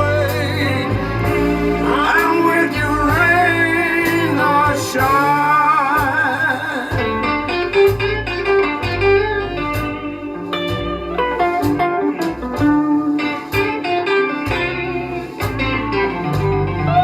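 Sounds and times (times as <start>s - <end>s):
backing band with bass and drums: 0.0s - 17.0s
blues electric guitar solo: 0.0s - 17.0s.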